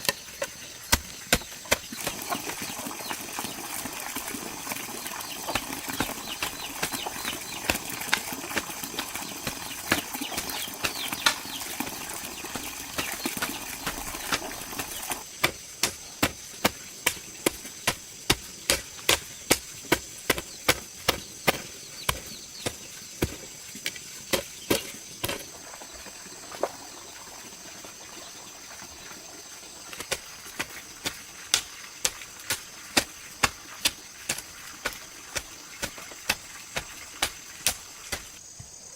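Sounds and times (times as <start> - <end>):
sharp evenly spaced knocks: 0.0 - 25.6, 29.9 - 38.4.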